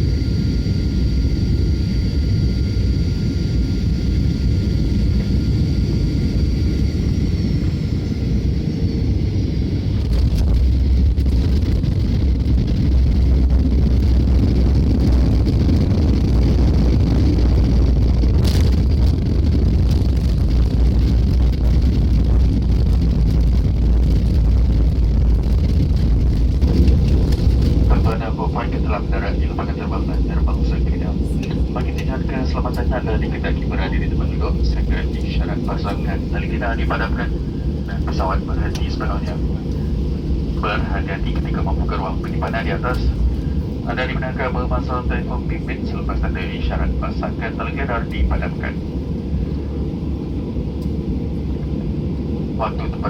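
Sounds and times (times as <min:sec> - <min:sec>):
jet engines humming with high whine: 0:00.0 - 0:53.0.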